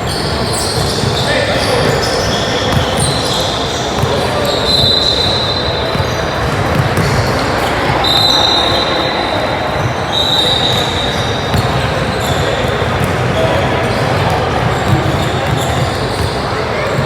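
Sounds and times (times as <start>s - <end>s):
basketball bouncing on court: 0.0s - 9.0s, 9.7s - 17.0s
high shoe squeaks: 0.0s - 17.0s
voices echoing in hall: 0.0s - 17.0s.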